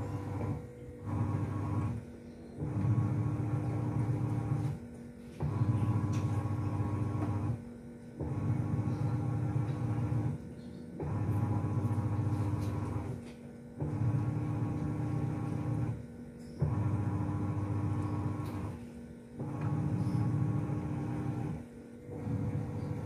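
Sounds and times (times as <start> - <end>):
washing machine motor humming: 0.0 - 23.0.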